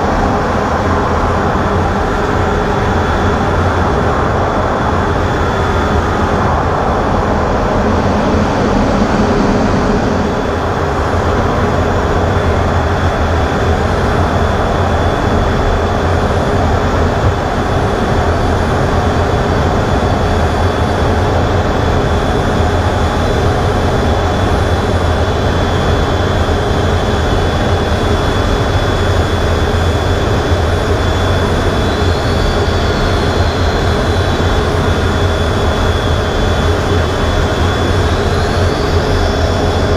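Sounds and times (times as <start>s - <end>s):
jet engine low rumble: 0.0s - 39.9s
thin high whine: 0.0s - 39.9s.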